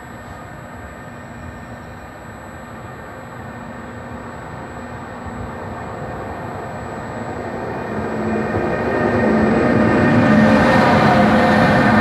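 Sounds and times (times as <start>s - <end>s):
electric locomotive approaching: 0.0s - 12.0s.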